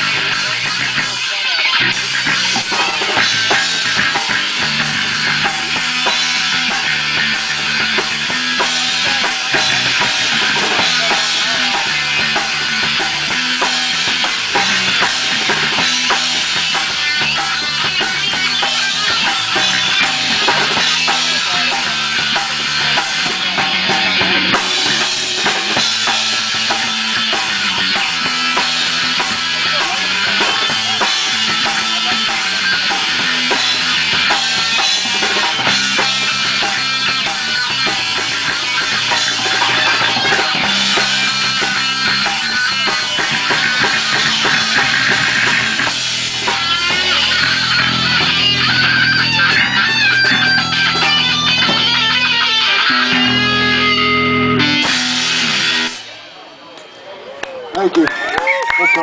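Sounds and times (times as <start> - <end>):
bass line: 0.0 - 56.3
drum kit: 0.0 - 56.3
rock band playing live: 0.0 - 56.9.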